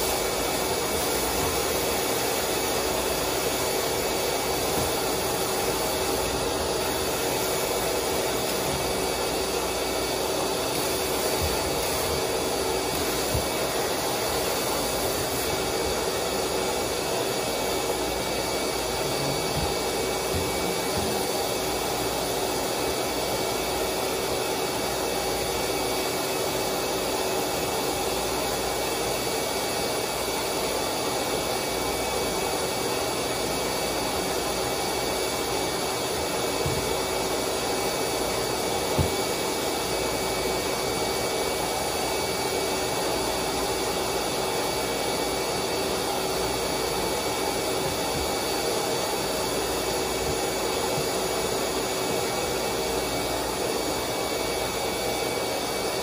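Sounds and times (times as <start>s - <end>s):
electric blower motor whirring: 0.0s - 56.0s.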